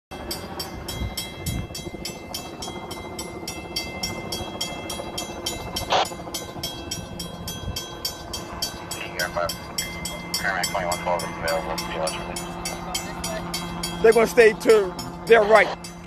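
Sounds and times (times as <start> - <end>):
fire engine rumbling: 0.1 - 16.0
steady high tones: 0.2 - 16.0.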